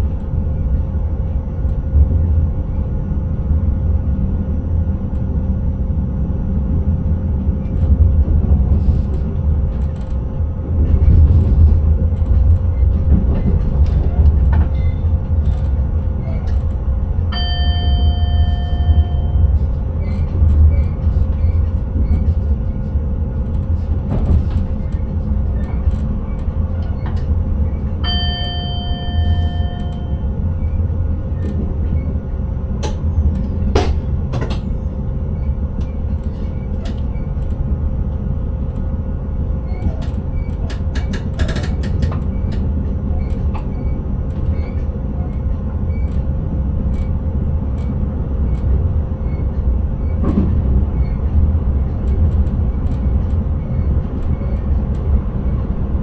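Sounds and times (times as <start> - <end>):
train rumble from cab: 0.0 - 56.0.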